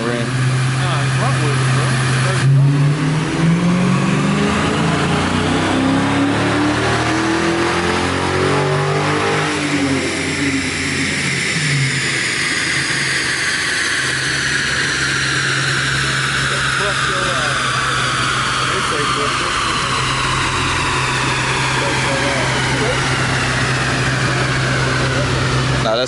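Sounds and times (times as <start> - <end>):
car engine revving: 0.0 - 26.0
high whine: 0.0 - 26.0.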